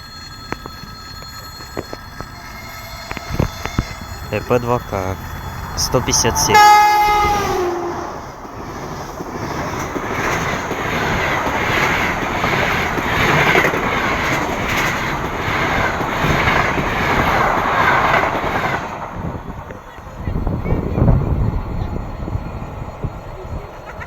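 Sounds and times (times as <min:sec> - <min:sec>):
passenger train rolling past: 0:00.0 - 0:24.0.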